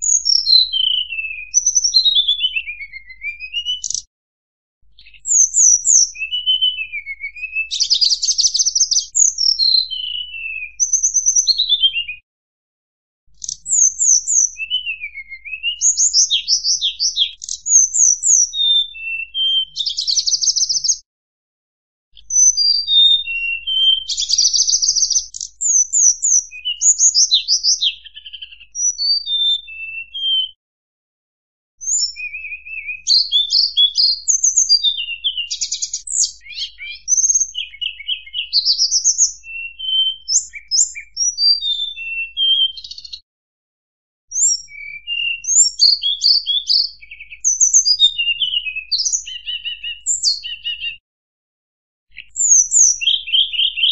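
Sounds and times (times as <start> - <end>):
songbird singing trills: 0.0 - 4.1, 5.0 - 12.2, 13.4 - 21.0, 22.2 - 30.6, 31.8 - 43.2, 44.3 - 51.0, 52.1 - 53.9.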